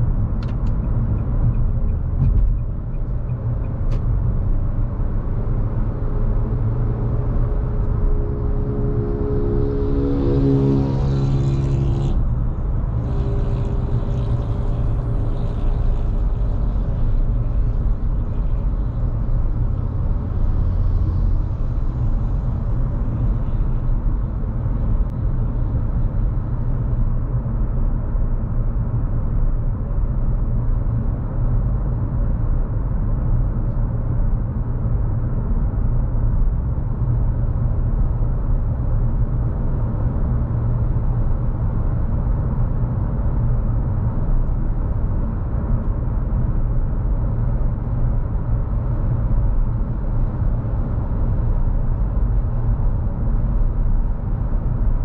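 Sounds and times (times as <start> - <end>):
car engine and road noise rumble: 0.0 - 55.0.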